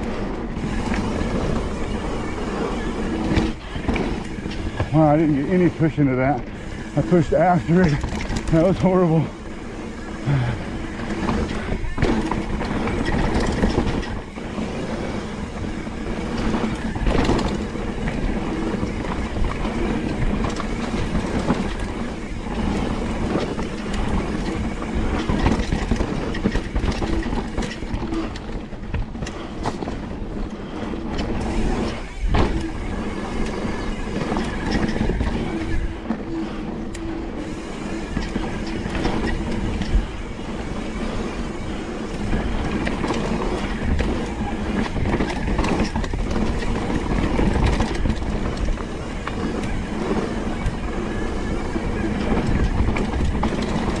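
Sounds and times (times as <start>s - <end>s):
bike tyres and frame rattling: 0.0s - 54.0s.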